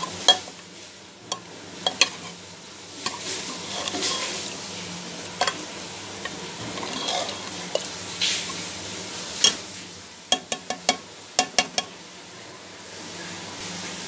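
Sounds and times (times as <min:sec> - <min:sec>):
metal spoon stirring in pot: 0:00.0 - 0:12.0.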